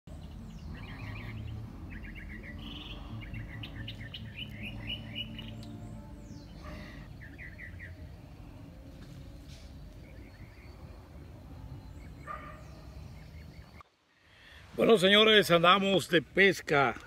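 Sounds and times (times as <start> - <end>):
wild birds chirping: 0.1 - 16.9.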